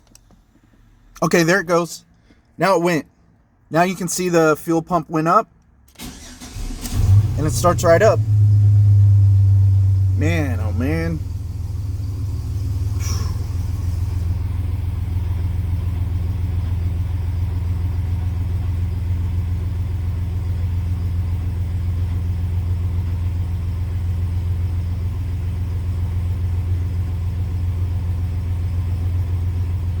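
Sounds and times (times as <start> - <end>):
truck engine idling: 6.0 - 30.0.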